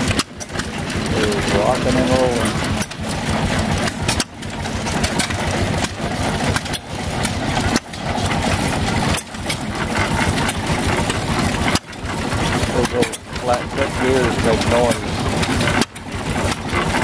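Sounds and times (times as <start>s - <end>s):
sharp mechanical clicks and knocks: 0.0s - 17.0s
stationary engines chugging: 0.0s - 17.0s.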